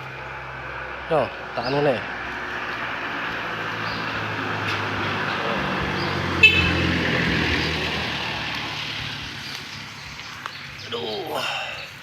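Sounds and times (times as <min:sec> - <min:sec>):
vehicle engine passing: 0:00.0 - 0:11.1.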